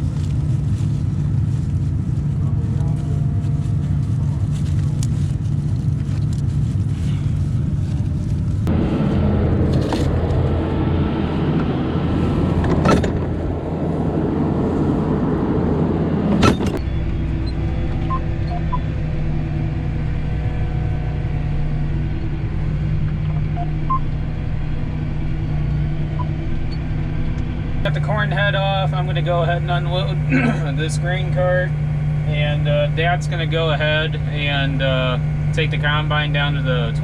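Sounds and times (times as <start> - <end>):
farm machine diesel engine: 0.0 - 37.0.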